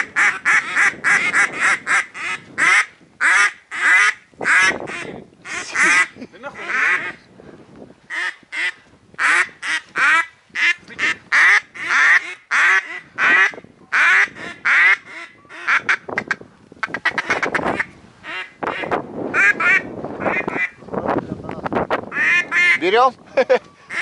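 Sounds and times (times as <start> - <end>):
duck quacking: 0.0 - 7.2, 8.1 - 20.8, 22.1 - 22.8.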